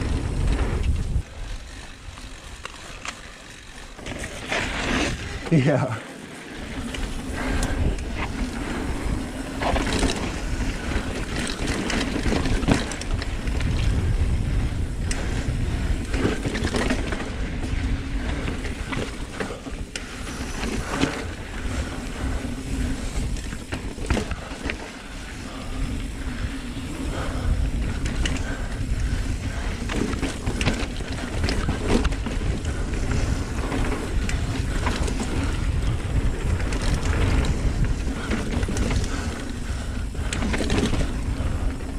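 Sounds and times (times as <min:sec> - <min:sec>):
wind on microphone: 0:00.0 - 0:02.6, 0:06.6 - 0:41.9
bike clicks and clatters: 0:00.0 - 0:41.9
bike tyres rumbling on dirt: 0:00.0 - 0:41.9.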